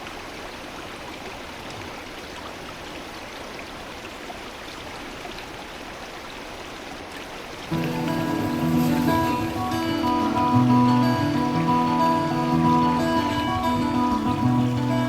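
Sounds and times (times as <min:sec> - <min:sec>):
stream flowing: 0:00.0 - 0:15.0
water trickling and dripping: 0:00.0 - 0:15.0.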